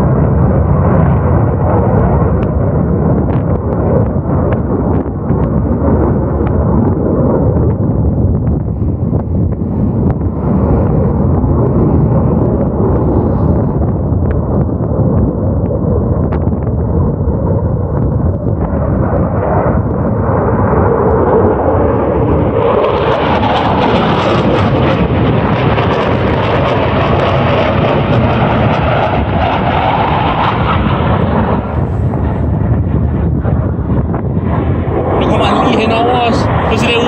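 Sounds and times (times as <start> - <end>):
jet aircraft flying overhead: 0.0 - 37.0.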